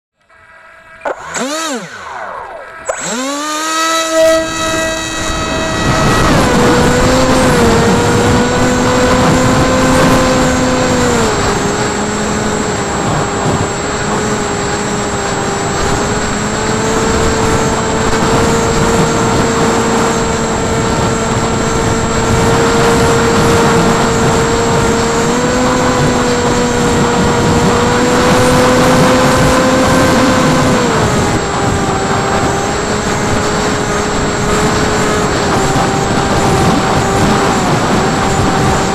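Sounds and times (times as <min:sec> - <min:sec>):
electric motor and propeller whine: 0:00.2 - 0:38.9.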